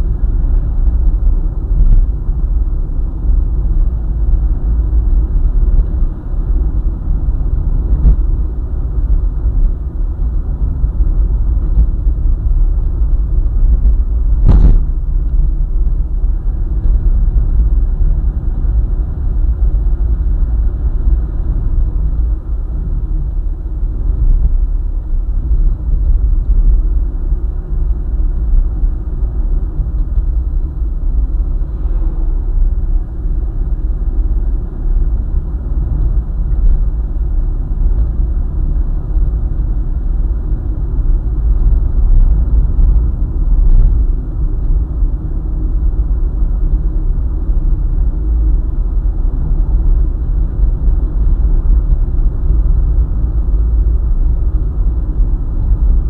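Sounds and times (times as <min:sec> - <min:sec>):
vehicle driving on highway: 0:00.0 - 0:56.0.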